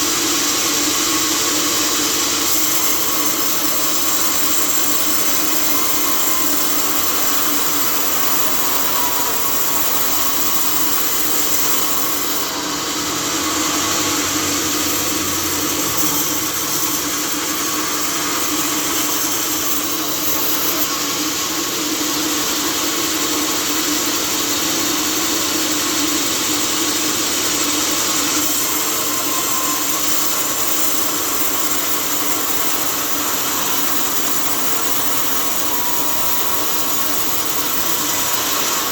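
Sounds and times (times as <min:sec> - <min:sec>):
sawmill saw cutting timber: 0:00.0 - 0:38.9.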